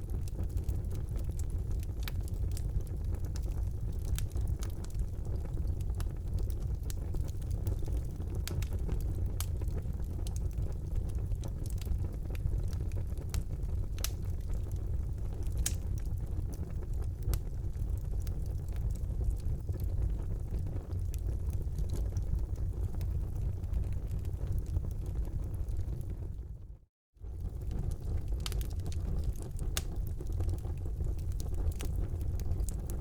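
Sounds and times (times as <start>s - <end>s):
fire crackling and popping: 0.0s - 26.6s, 27.2s - 33.0s
fire flames rumbling: 0.0s - 33.0s.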